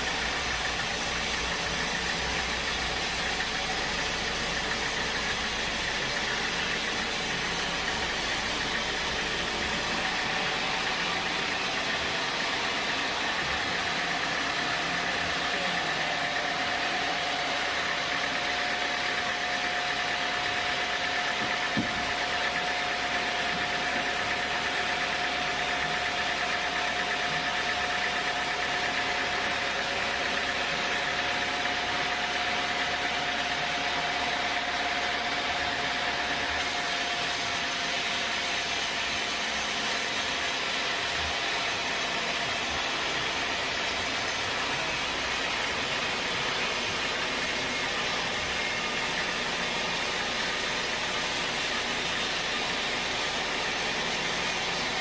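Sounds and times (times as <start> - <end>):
sawmill machinery whining: 0.0 - 55.0.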